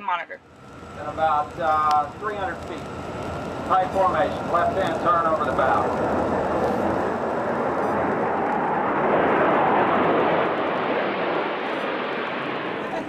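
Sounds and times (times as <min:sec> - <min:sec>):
jet roar passing overhead: 0:00.0 - 0:13.0.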